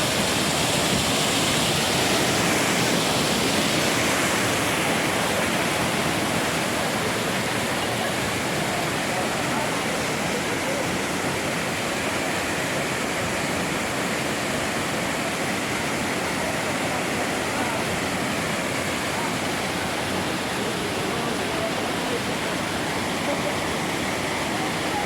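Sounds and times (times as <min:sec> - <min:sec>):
waterfall rushing and splashing: 0:00.0 - 0:25.0.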